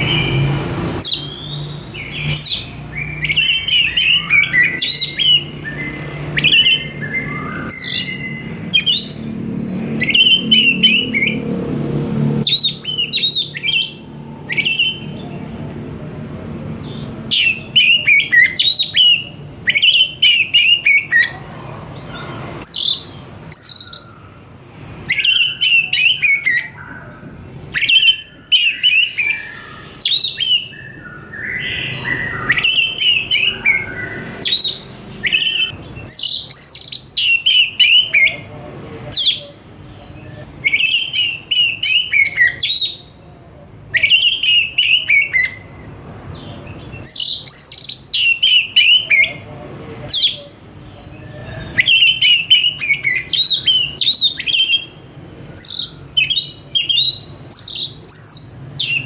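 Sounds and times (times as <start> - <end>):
bird singing whistled phrases: 0.0 - 11.4, 12.4 - 15.3, 16.8 - 21.4, 22.0 - 24.4, 25.1 - 38.4, 39.1 - 43.1, 43.9 - 45.8, 46.4 - 49.4, 51.2 - 55.0, 55.6 - 59.0.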